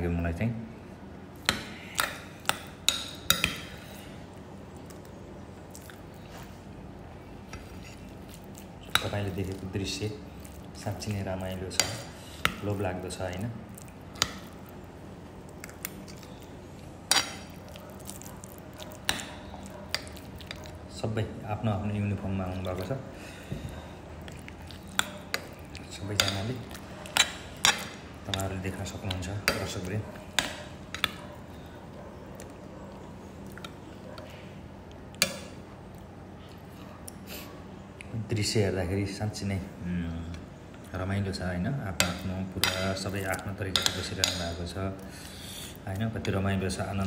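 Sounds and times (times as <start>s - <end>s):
outdoor background noise: 0.0s - 47.0s.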